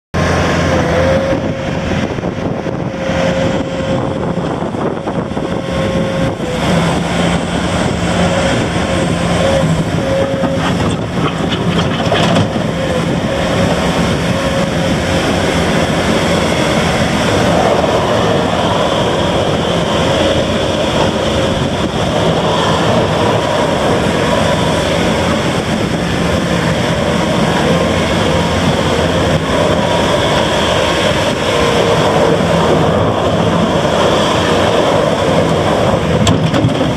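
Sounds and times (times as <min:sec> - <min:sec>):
diesel engine running: 0:00.2 - 0:36.9
high whine: 0:00.2 - 0:36.9.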